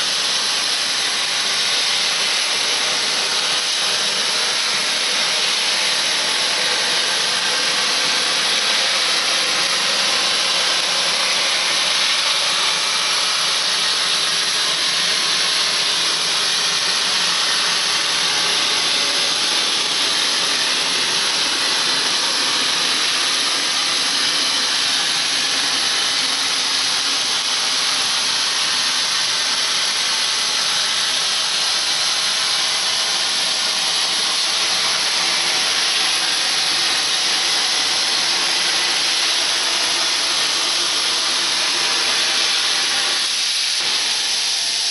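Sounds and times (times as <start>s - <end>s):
loud steady hiss: 0.0s - 44.9s.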